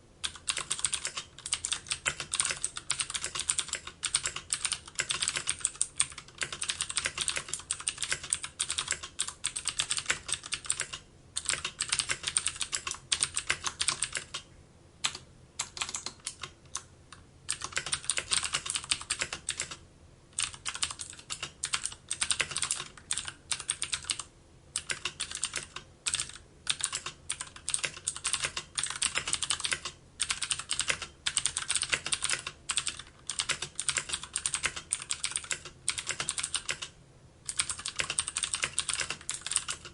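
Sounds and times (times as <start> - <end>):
keyboard typing: 0.2 - 16.9, 17.5 - 19.8, 20.4 - 39.9.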